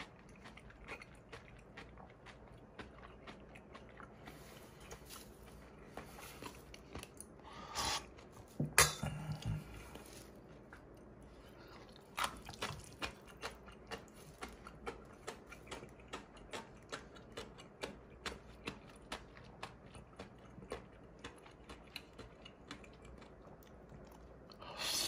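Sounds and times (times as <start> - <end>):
crunchy chewing: 0.0 - 8.6, 9.3 - 24.7.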